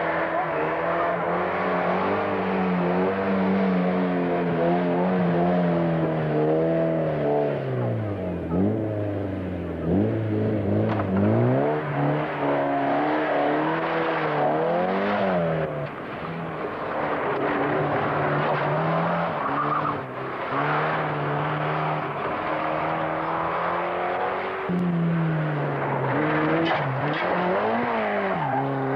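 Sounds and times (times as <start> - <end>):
rally car engines revving: 0.0 - 28.9.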